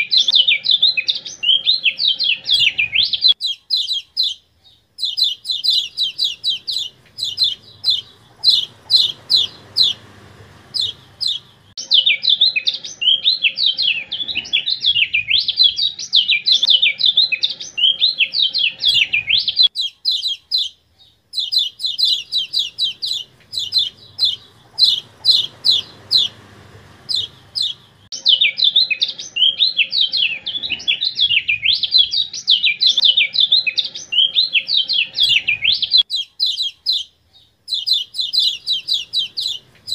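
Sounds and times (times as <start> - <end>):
bird song with sharp chips: 0.0 - 39.9
rapid warbling bird chatter: 0.2 - 4.4, 5.0 - 28.5, 33.0 - 37.1, 37.7 - 39.9.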